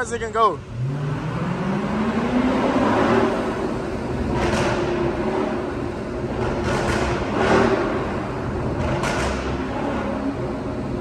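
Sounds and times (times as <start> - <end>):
car exhaust rumbling: 0.0 - 11.0.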